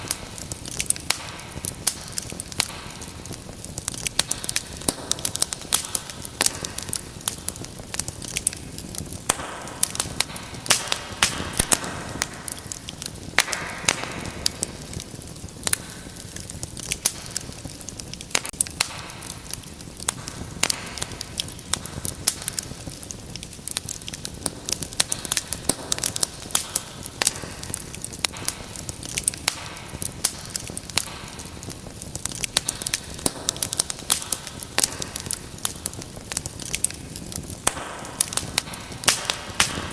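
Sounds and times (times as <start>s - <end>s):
hiss of flames: 0.0s - 39.9s
wood fire crackling and popping: 0.0s - 39.9s.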